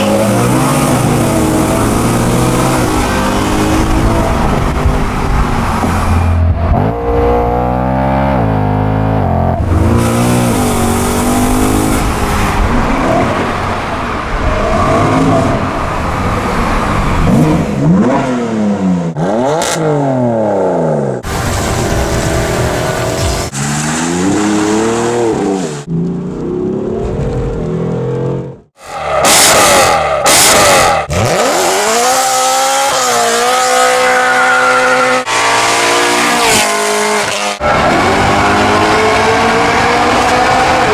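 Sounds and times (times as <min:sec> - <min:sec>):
car engine revving and accelerating: 0:00.0 - 0:28.6, 0:29.2 - 0:40.9.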